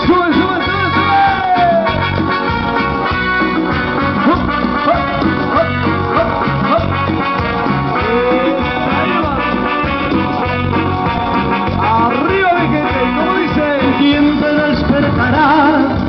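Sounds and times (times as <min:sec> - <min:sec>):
electronic keyboards: 0:00.0 - 0:16.0
guitar: 0:00.0 - 0:16.0
steady low beat: 0:03.1 - 0:16.0.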